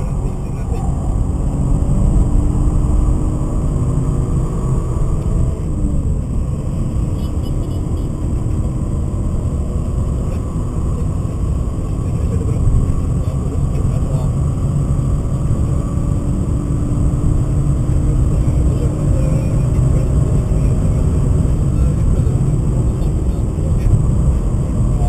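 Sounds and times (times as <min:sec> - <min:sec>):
car engine under load: 0:00.0 - 0:25.0
road and wind noise: 0:00.0 - 0:25.0.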